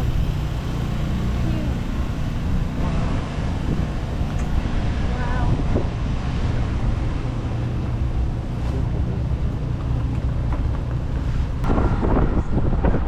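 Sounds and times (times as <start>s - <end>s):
car rumbling on the move: 0.0s - 13.0s
wind noise: 0.0s - 13.0s.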